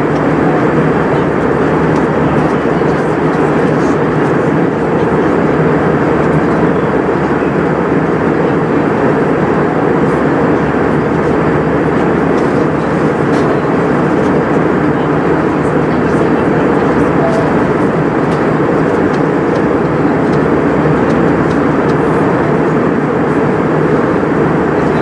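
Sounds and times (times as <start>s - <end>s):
aircraft cabin engine noise: 0.0s - 25.0s.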